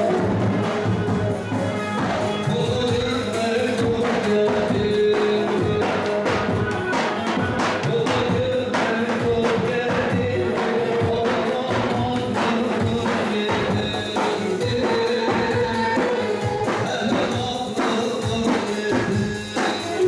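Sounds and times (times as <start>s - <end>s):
dance music with fast percussion: 0.0s - 20.0s.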